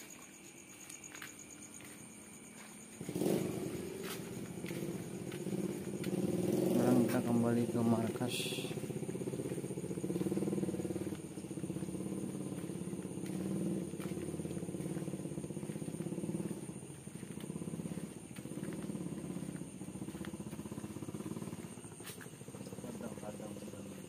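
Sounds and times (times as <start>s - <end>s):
motorcycle engine revving: 1.2s - 24.0s.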